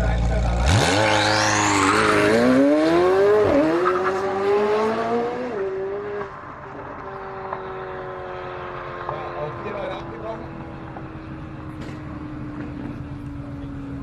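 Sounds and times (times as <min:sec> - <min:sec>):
sports car accelerating hard: 0:00.1 - 0:14.0.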